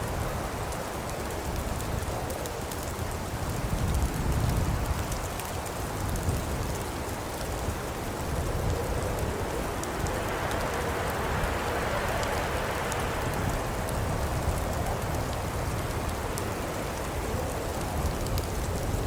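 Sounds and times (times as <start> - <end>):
fire burning in fireplace: 0.0 - 19.0
fire crackling and popping: 0.0 - 19.0.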